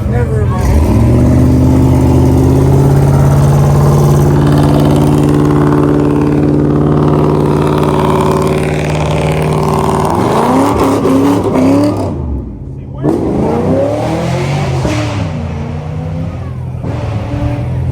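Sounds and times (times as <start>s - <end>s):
car engine revving high: 0.4s - 12.4s, 13.0s - 17.9s.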